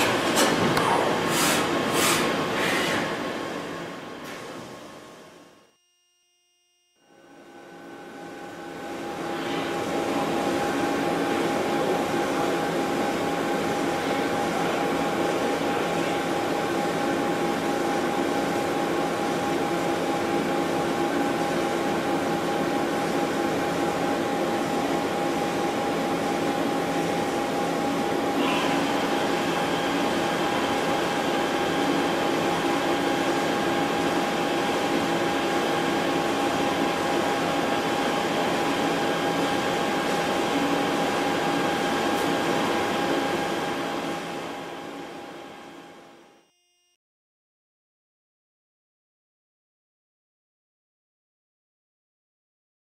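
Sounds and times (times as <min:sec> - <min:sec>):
machine hum with whining tones: 0:00.0 - 0:47.0.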